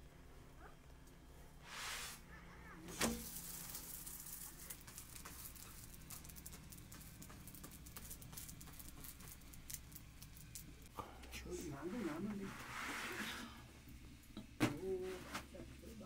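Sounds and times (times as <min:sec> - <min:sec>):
wood fire crackling: 0:00.8 - 0:16.0.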